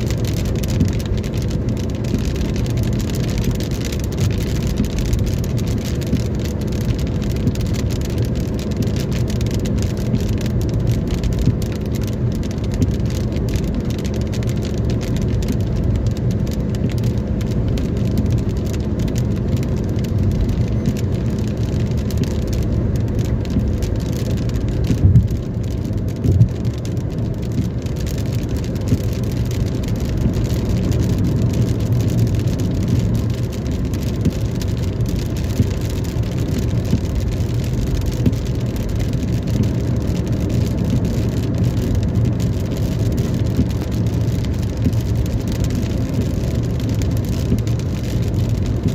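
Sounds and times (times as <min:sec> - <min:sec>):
car hum on road: 0:00.0 - 0:48.9
rain falling: 0:00.0 - 0:48.9.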